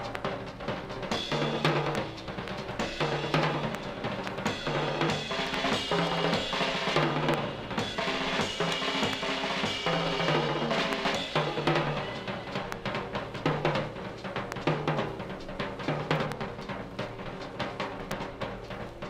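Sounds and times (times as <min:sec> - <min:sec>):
drum kit playing: 0:00.0 - 0:19.0.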